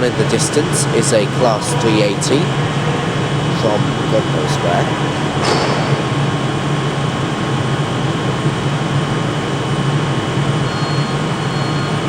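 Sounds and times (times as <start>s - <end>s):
faint high whine: 0.0s - 12.0s
trains low hum: 0.0s - 12.0s.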